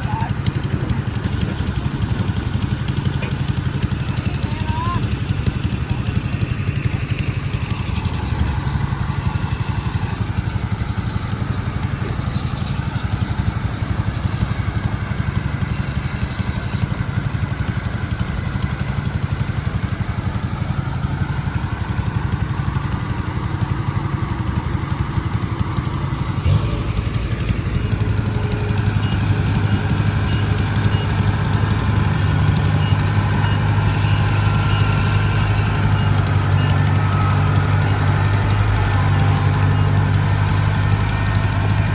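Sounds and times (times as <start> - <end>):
harvesting machine engine running: 0.0 - 41.9.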